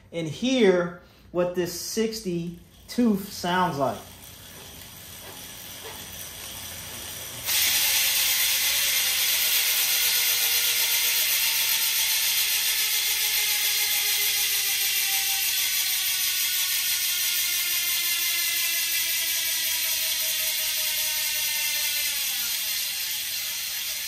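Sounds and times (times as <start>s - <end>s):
bike drivetrain whirring: 1.7s - 24.0s
freewheel ratchet clicks buzzing: 2.1s - 24.0s.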